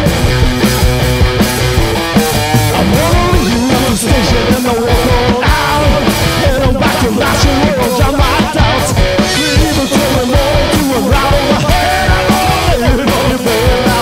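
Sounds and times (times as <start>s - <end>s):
rock band playing loudly: 0.0s - 14.0s.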